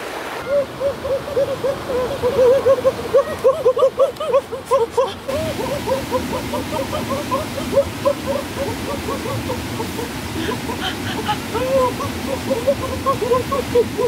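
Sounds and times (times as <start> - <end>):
stream water hissing: 0.0 - 14.0.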